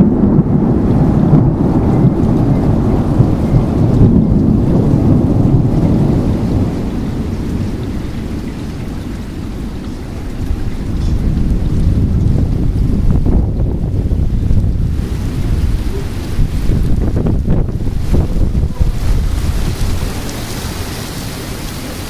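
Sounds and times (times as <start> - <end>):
heavy rain: 0.0 - 22.0
low rumble of thunder: 0.0 - 22.0.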